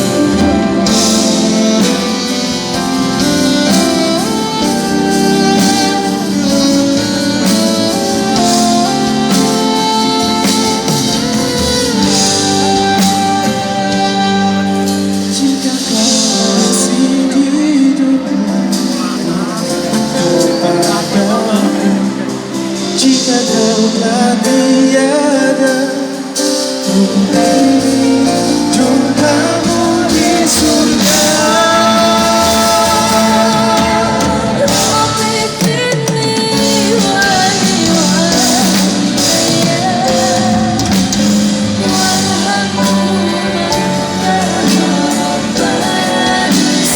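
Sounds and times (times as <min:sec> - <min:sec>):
live band instrumental music: 0:00.0 - 0:46.9
person singing long notes: 0:00.0 - 0:46.9.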